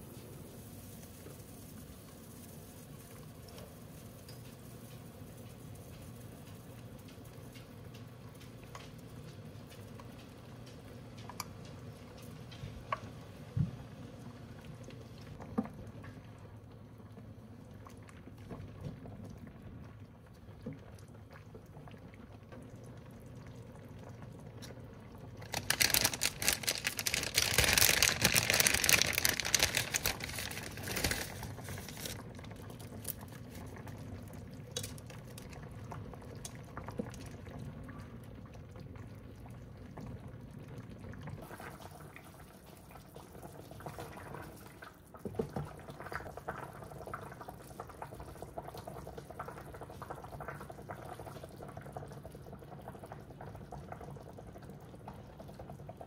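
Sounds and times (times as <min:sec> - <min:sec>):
broth boiling and bubbling: 0:00.0 - 0:56.0.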